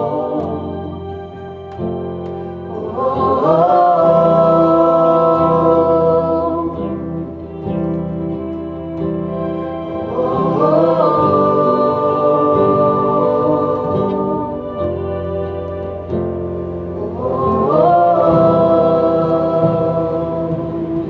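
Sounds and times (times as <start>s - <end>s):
person singing long held notes: 0.0s - 21.0s
sustained keyboard chords: 0.0s - 21.0s.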